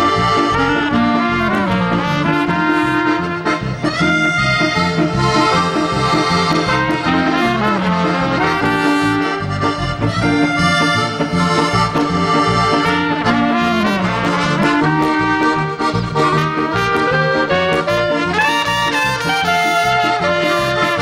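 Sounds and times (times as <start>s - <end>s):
accordion playing folk melody: 0.0s - 21.0s
band with brass: 0.0s - 21.0s
trumpet: 0.0s - 21.0s.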